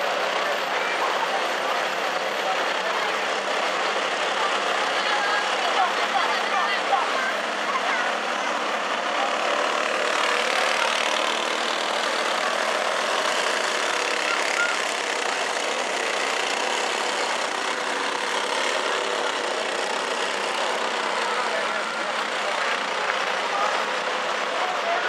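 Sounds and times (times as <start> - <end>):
go-kart engines droning: 0.0 - 25.0.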